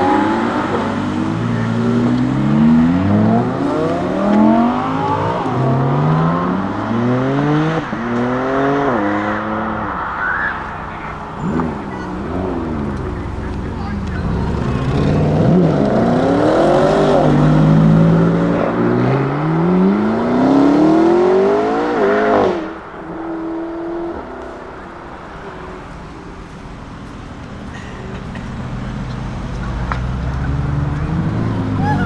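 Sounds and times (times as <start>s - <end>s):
sports car engine accelerating: 0.0s - 32.0s.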